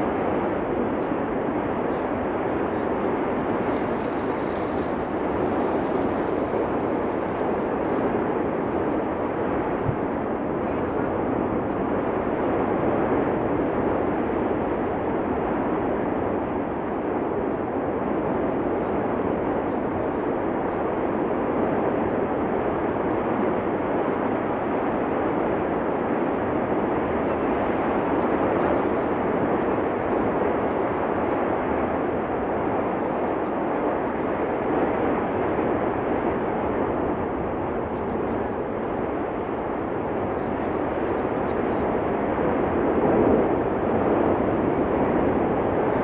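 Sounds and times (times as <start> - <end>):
volcanic eruption roar: 0.0 - 46.0.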